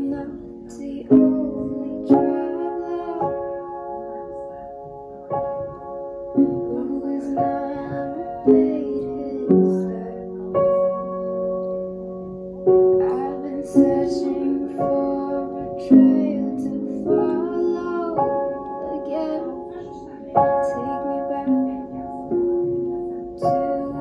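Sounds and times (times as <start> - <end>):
piano chords ringing: 0.0 - 24.0.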